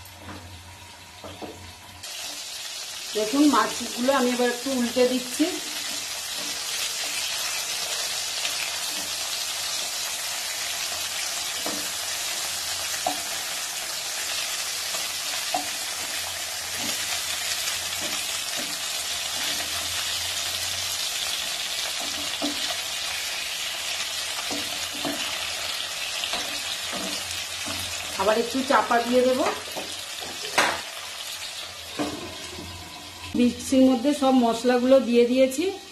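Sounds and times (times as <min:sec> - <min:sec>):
fish sizzling in hot oil: 0:01.3 - 0:33.4.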